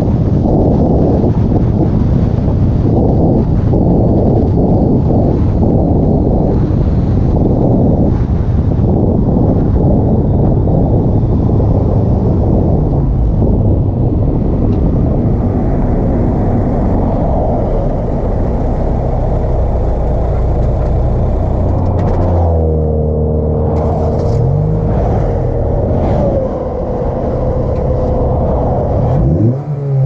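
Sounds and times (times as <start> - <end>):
car engine rumbling: 0.0 - 30.0
wind buffeting microphone: 0.0 - 30.0.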